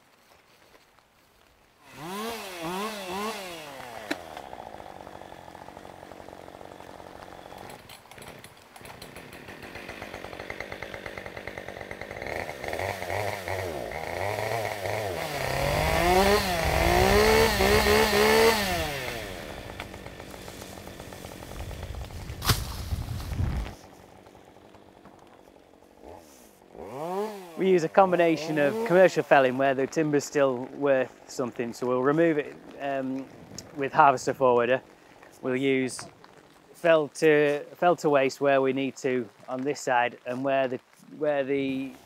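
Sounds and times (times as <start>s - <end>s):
chainsaw engine revving and idling: 1.8s - 37.7s.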